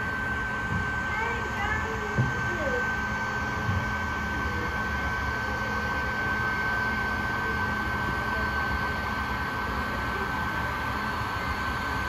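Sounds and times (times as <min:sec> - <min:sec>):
machine rumble and whine: 0:00.0 - 0:12.0.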